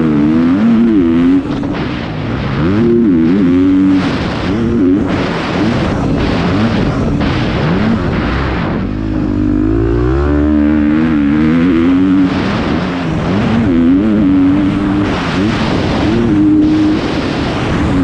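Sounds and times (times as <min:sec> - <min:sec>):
motocross bike engine revving: 0:00.0 - 0:18.0
wind noise: 0:00.0 - 0:18.0.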